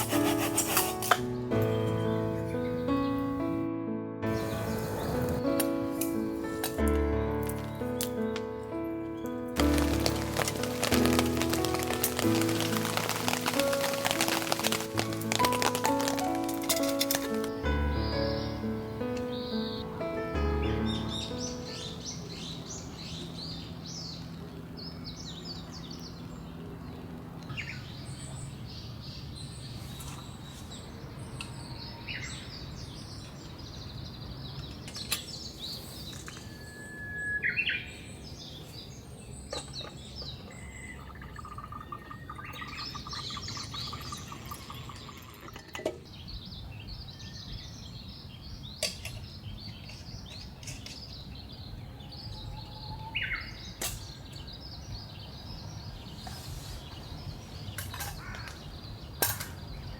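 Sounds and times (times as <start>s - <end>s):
songbirds chirping: 0.0s - 3.6s, 4.2s - 59.9s.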